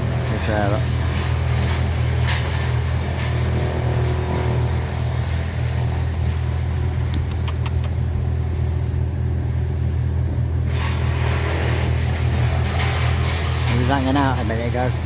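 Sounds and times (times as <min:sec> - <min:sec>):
machinery engine rumbling: 0:00.0 - 0:15.0.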